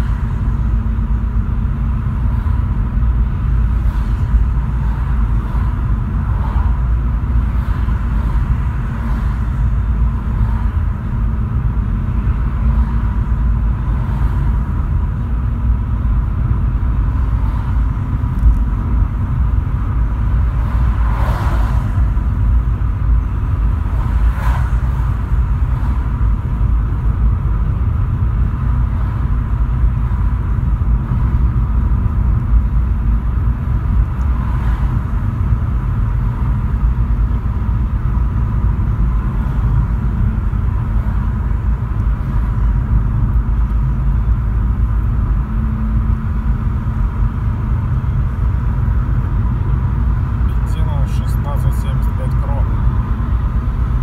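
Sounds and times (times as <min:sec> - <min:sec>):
car cabin road rumble: 0:00.0 - 0:54.0
passing traffic swishes: 0:00.0 - 0:54.0.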